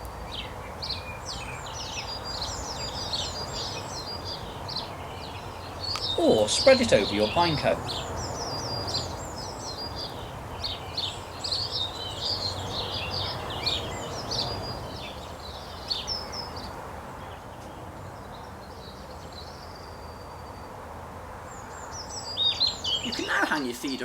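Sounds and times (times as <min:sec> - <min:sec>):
outdoor background noise: 0:00.0 - 0:24.0
songbirds chirping: 0:00.0 - 0:24.0.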